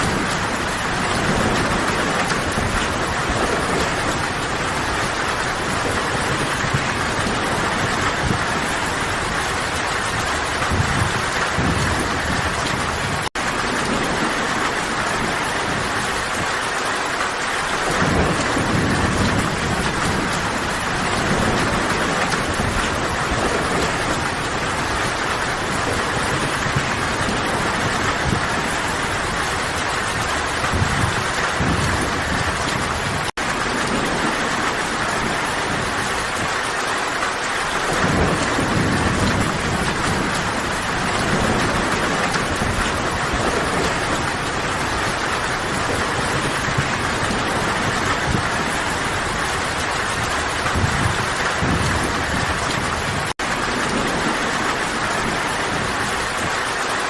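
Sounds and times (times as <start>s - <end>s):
distant thunder rumbles: 0.0s - 57.0s
heavy rain on foliage: 0.0s - 57.0s.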